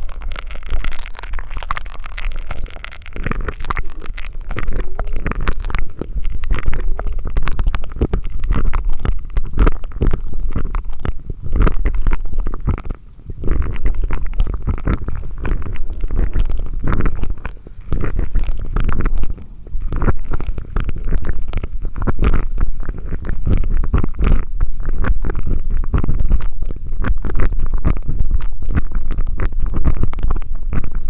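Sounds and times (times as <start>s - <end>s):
wet mouth clicks and crackles: 0.0s - 31.0s.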